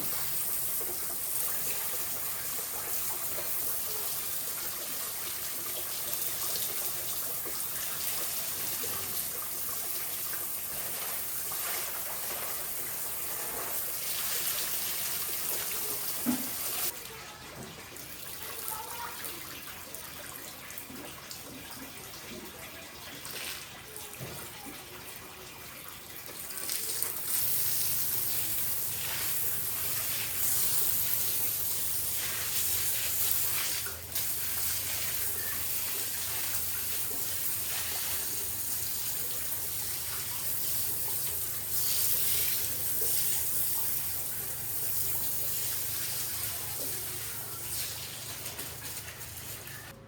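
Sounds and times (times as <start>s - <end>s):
tap water running and splashing: 0.0s - 50.0s.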